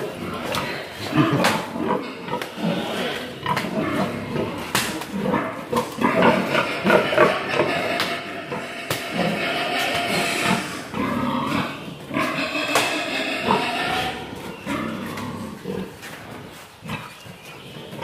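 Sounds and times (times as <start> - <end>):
pigs grunting: 0.0 - 18.0.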